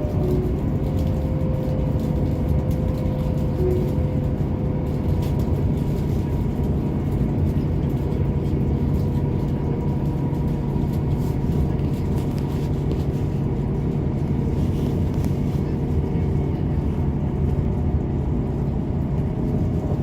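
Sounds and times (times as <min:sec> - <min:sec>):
constant hum: 0:00.0 - 0:20.0
train rumbling drone: 0:00.0 - 0:20.0.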